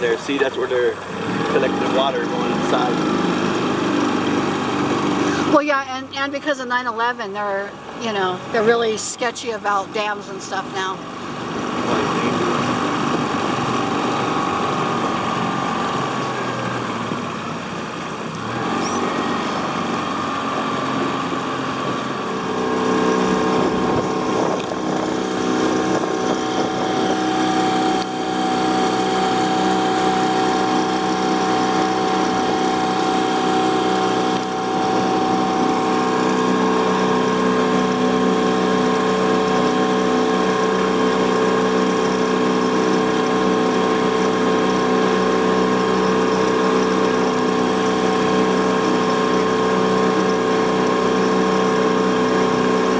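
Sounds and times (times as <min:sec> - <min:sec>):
outboard motor running: 0:00.0 - 0:52.9
water noise: 0:00.0 - 0:52.9
wind: 0:00.0 - 0:52.9.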